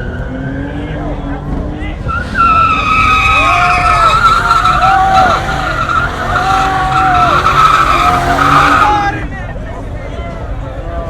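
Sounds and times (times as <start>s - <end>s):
car engine revving: 0.0s - 9.4s
car tyres squealing: 0.0s - 9.5s.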